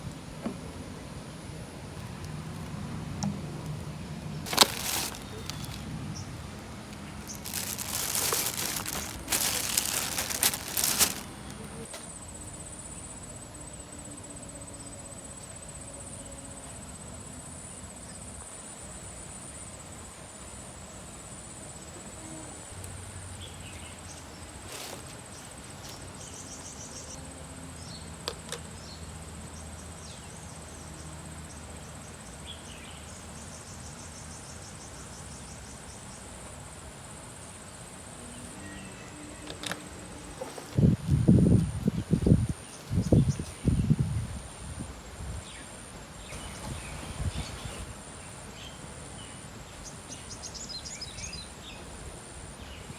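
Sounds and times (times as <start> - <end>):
outdoor background: 0.0 - 52.9.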